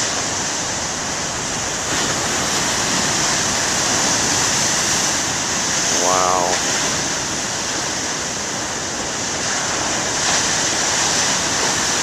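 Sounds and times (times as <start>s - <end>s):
ocean surf crashing: 0.0s - 12.0s.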